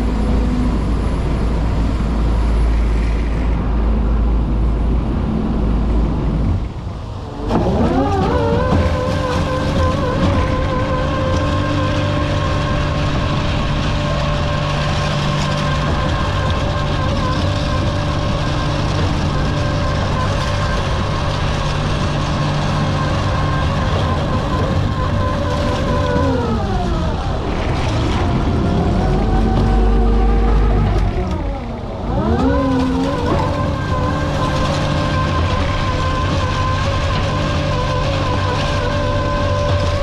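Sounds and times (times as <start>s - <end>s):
machinery whining: 0.0s - 40.0s.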